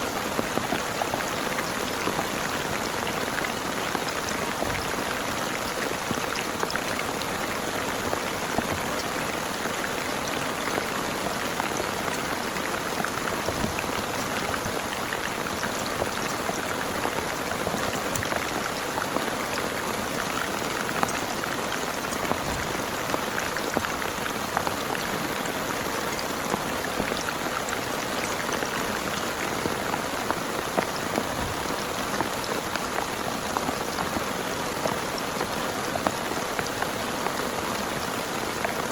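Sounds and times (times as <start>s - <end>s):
heavy rain: 0.0s - 38.9s
raindrops ticking: 0.1s - 38.9s.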